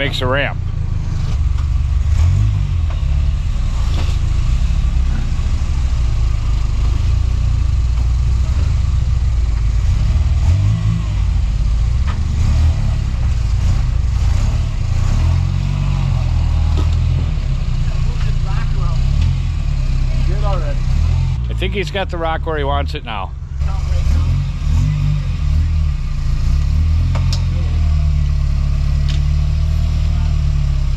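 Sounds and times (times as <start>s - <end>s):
engine running low and revving: 0.0s - 30.9s.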